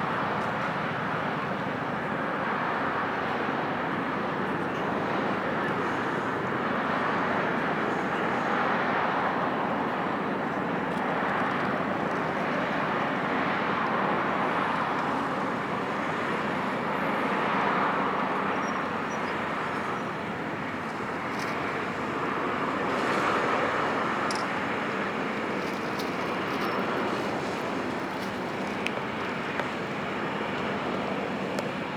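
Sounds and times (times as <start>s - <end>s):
ship engines: 0.2s - 31.9s.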